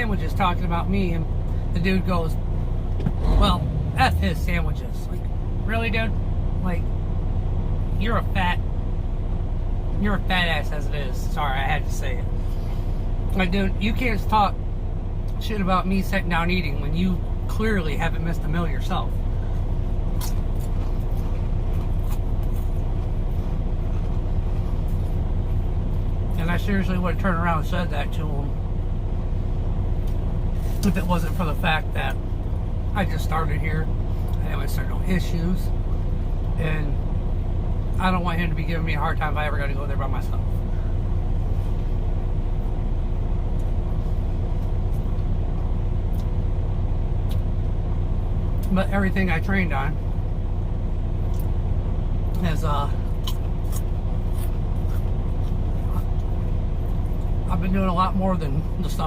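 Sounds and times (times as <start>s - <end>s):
faint steady hum: 0.0s - 59.0s
truck engine idling: 0.0s - 59.0s.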